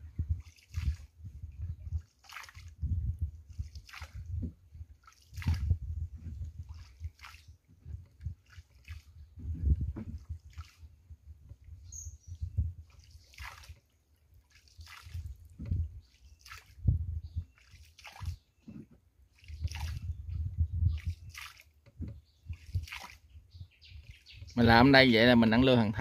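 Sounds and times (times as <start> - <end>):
oars splashing water: 0.0 - 24.6.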